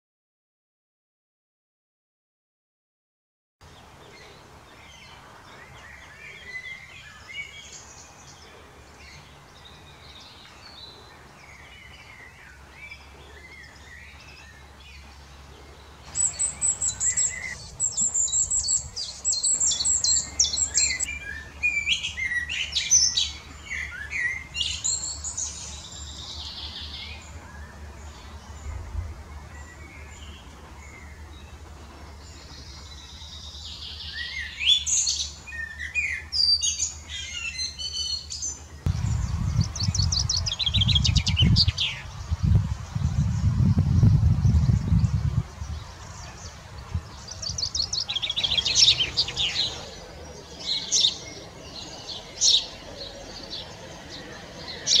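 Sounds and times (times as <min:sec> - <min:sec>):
chaffinch song: 0:03.6 - 0:55.0
blackbird singing: 0:04.0 - 0:55.0.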